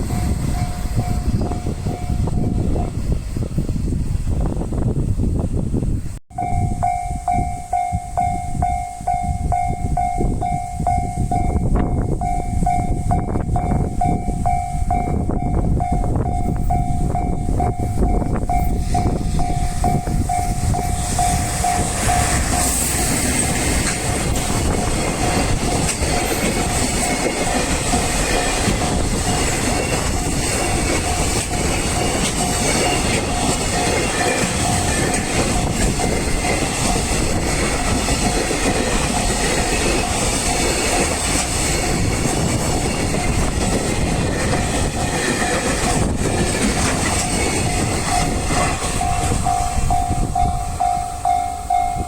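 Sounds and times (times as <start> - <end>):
level crossing warning bell ringing: 0.0 - 3.0, 6.3 - 52.0
train rumble and wheel clatter: 0.0 - 52.0.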